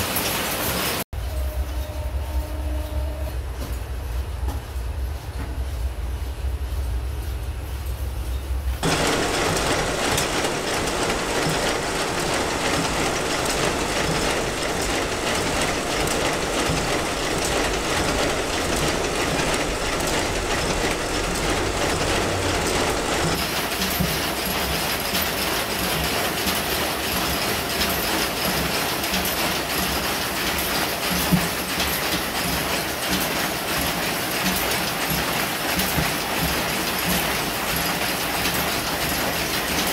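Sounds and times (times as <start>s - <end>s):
machine looms clicking and knocking: 0.0s - 1.0s, 8.6s - 39.9s.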